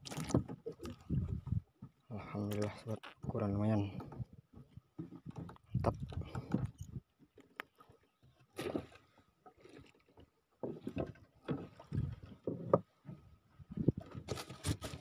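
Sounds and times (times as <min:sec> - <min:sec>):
water lapping around wooden boat: 0:00.0 - 0:15.0.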